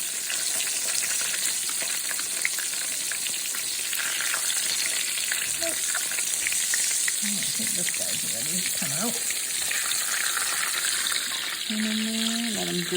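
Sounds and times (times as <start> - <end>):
tomato slices sizzling in grease: 0.0 - 12.9.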